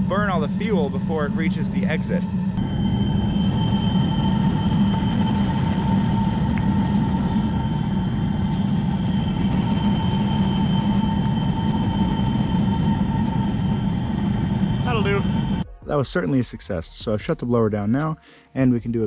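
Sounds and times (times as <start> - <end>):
burner flame roaring: 0.0 - 15.6
blower fan whining: 0.0 - 16.4.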